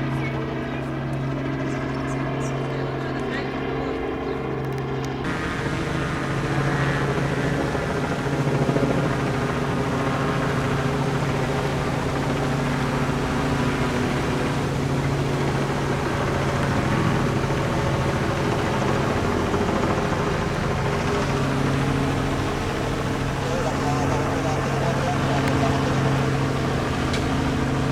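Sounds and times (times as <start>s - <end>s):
helicopter drone overhead: 0.0s - 27.9s.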